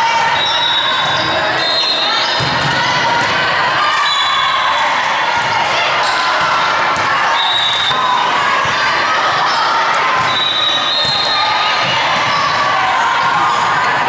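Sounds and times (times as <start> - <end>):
chatter and shouts of people: 0.0 - 14.0.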